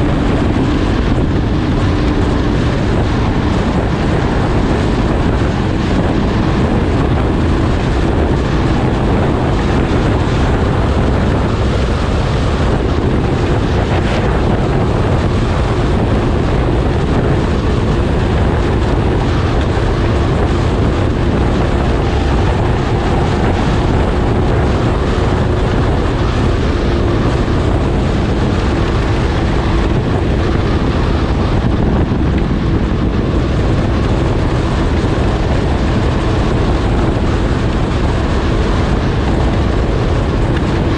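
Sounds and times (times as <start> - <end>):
snowmobile engine running: 0.0 - 40.9
wind noise on microphone: 0.0 - 40.9.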